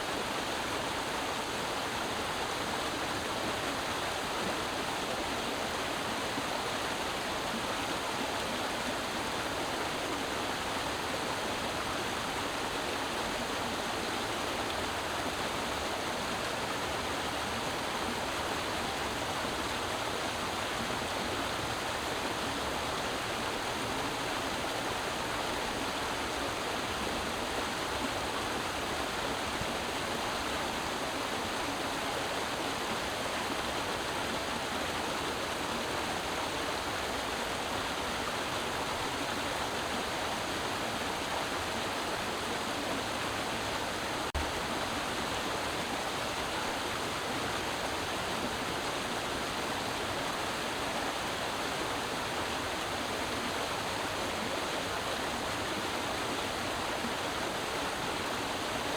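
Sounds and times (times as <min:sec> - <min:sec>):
creek water flowing and splashing: 0:00.0 - 0:58.9.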